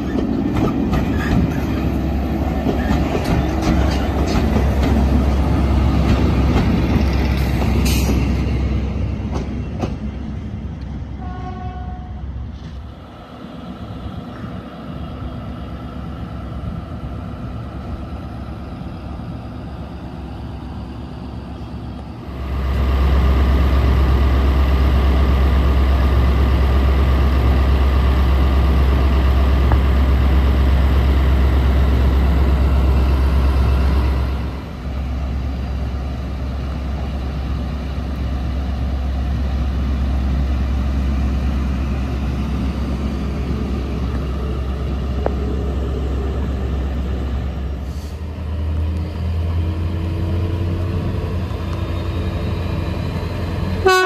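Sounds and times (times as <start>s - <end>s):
locomotive engine under power: 0.0s - 11.1s, 12.8s - 54.0s
diesel locomotive idling: 0.0s - 54.0s.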